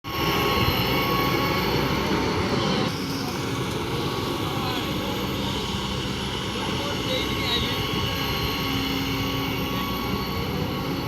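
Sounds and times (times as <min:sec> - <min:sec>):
excavator diesel engine running: 0:00.1 - 0:11.0.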